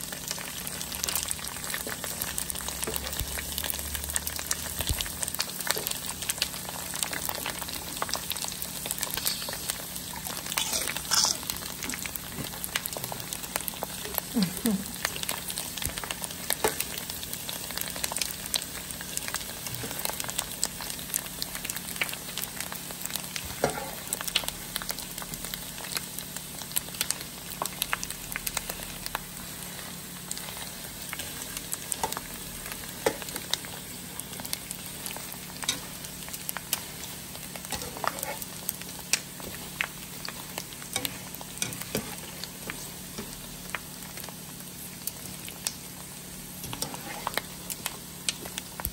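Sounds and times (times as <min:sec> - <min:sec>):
pork skin frying in hot oil: 0:00.0 - 0:48.9.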